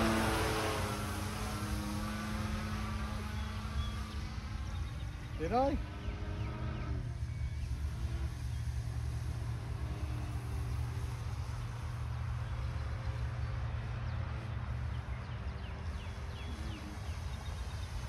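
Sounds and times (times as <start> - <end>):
model plane motor humming: 0.0 - 18.0.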